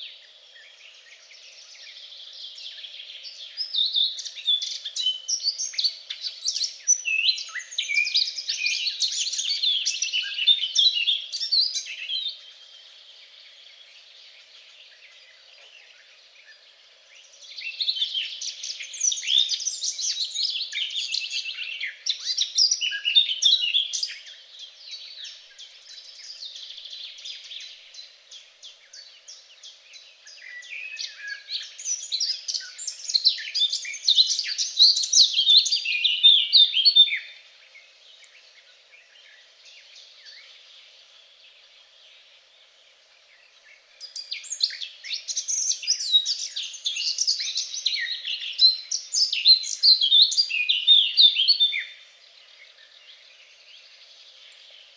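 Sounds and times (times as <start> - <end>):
songbirds twittering chorus: 0.0 - 54.9.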